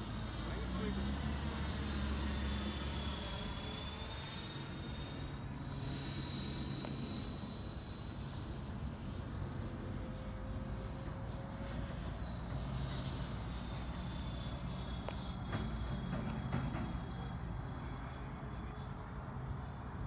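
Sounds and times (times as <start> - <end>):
model jet fans whining: 0.0 - 20.0.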